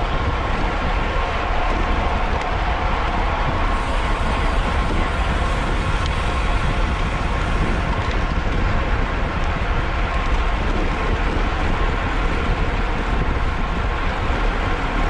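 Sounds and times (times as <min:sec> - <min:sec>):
road rumble: 0:00.0 - 0:15.0
wind rushing on microphone: 0:00.0 - 0:15.0.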